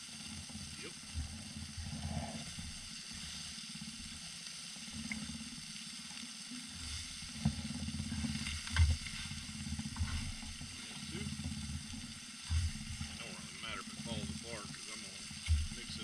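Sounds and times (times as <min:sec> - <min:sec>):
fish sizzling in metal pan: 0:00.0 - 0:16.0.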